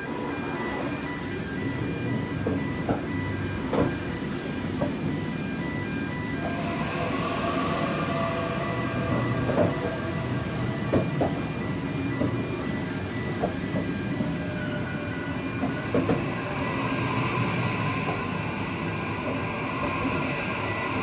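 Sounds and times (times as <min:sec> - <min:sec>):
electric train whine: 0:00.0 - 0:21.0
rumble of train cars: 0:00.0 - 0:21.0.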